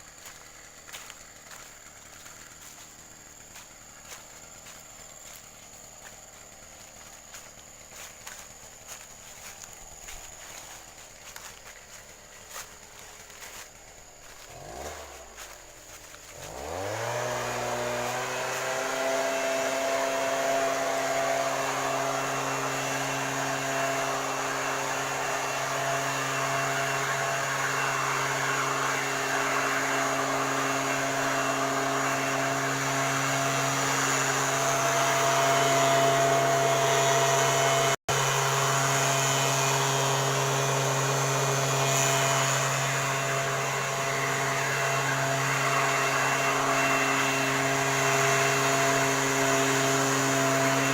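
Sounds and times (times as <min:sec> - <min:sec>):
two-stroke blower engine revving: 0:00.0 - 0:50.9.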